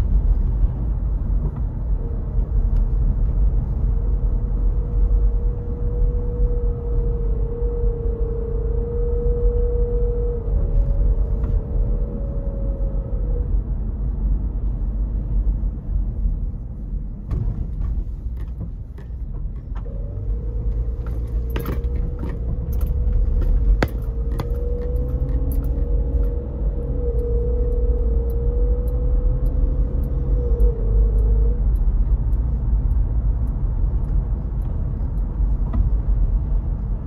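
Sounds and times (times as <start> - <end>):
tyre and engine rumble: 0.0 - 37.0.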